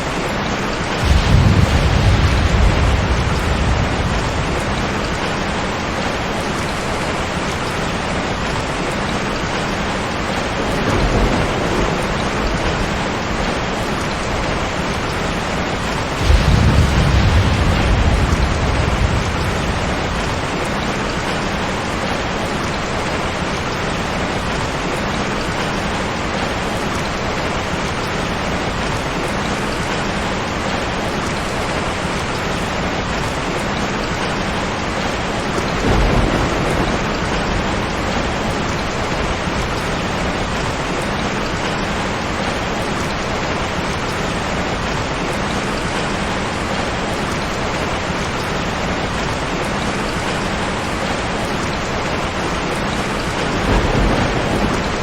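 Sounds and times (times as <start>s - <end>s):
thunder rumbling: 0.0s - 24.8s, 32.9s - 55.0s
heavy rain: 0.0s - 55.0s.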